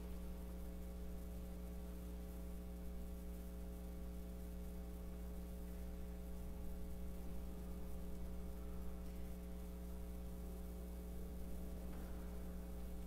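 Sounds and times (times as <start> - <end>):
electrical mains hum: 0.0 - 13.0
faint hiss: 0.0 - 13.0.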